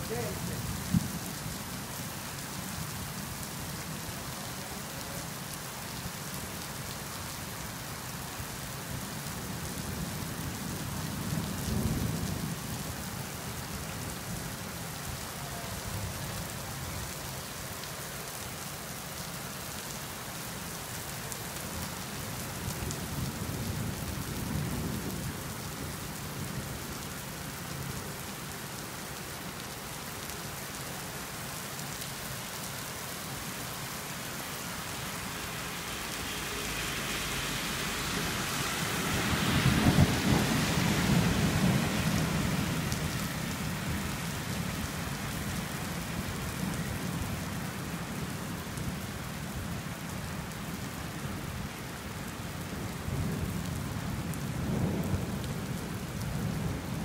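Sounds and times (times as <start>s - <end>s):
rain pouring on wet street: 0.0s - 57.0s.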